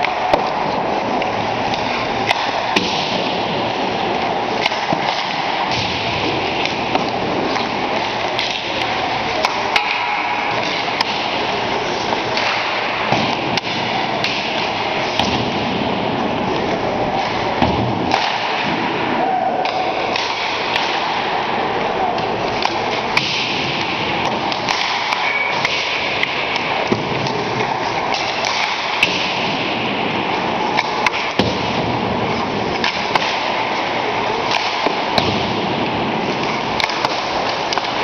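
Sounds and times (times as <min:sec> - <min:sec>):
hockey sticks striking pucks: 0:00.0 - 0:38.0
pucks hitting goalie pads: 0:00.0 - 0:38.0.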